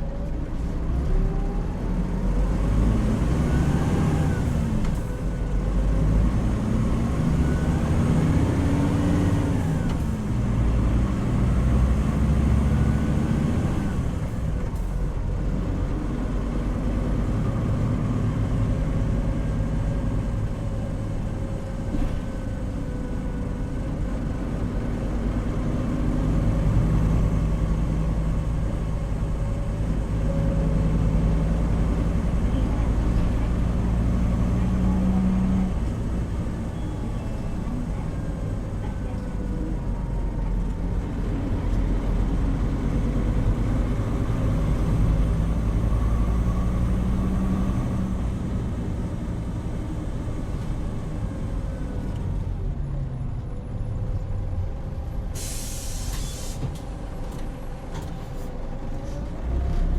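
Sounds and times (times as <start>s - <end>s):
bus diesel engine: 0.0s - 59.9s
road rumble: 0.0s - 59.9s.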